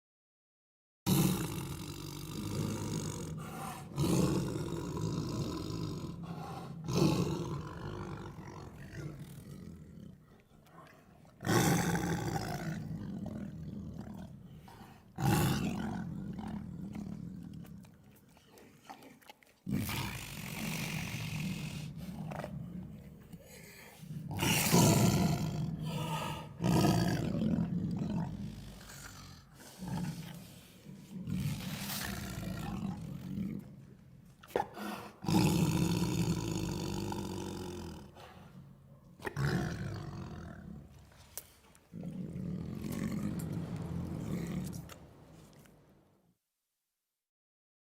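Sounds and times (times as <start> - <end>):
tiger growling and roaring: 1.1 - 46.2.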